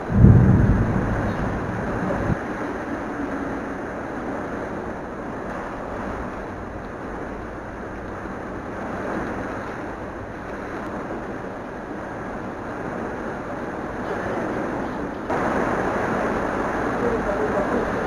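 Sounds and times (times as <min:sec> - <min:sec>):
rushing storm wind: 0:00.0 - 0:18.0.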